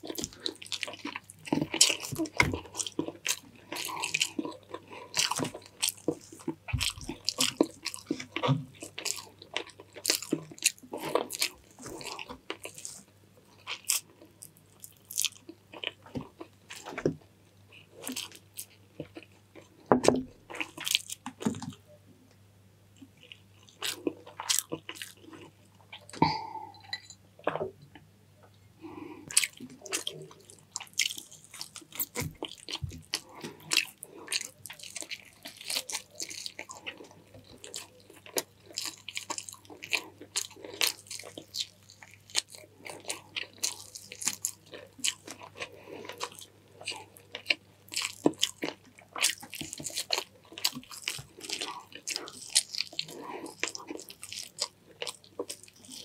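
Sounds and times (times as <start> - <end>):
person chewing and crunching food: 0.0 - 21.9, 23.0 - 27.8, 28.8 - 56.0.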